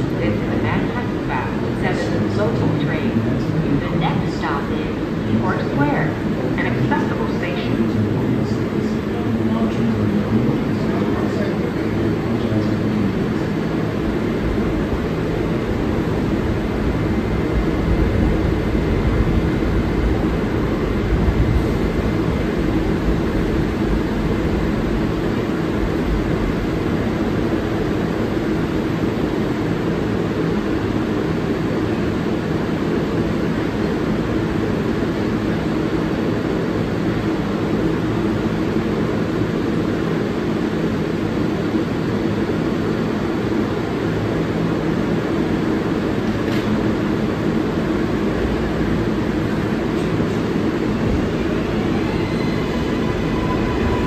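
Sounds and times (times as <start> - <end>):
train equipment low hum: 0.0 - 54.0.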